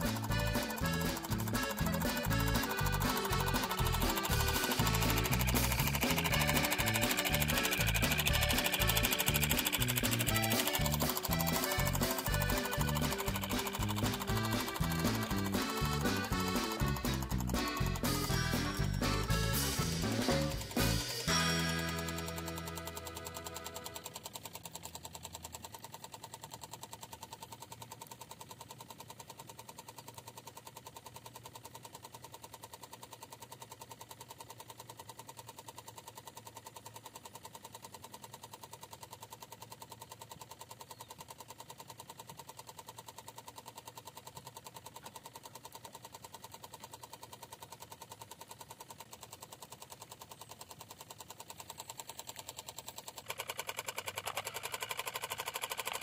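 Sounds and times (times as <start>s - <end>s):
miniature diesel engine chattering: 0.0s - 56.0s.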